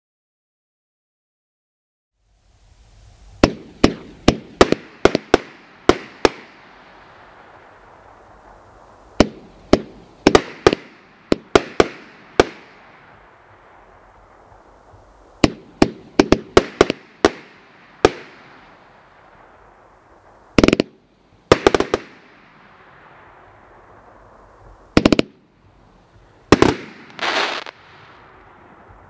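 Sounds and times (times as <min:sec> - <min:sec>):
hissing crackle of fireworks: 0:02.2 - 0:29.0
firework bangs: 0:03.2 - 0:29.0.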